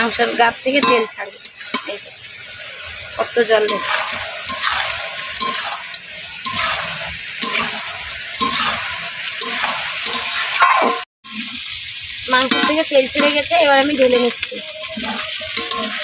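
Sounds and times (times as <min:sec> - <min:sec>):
metal spatula scraping a pan: 0:00.0 - 0:11.4, 0:12.3 - 0:16.0
meat frying and sizzling: 0:00.0 - 0:16.0.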